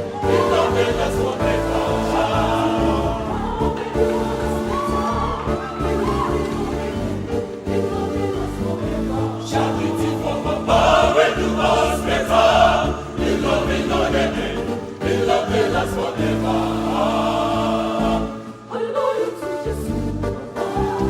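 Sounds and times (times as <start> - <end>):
sustained bass accompaniment: 0.0 - 18.4
choir singing gospel: 0.0 - 21.0.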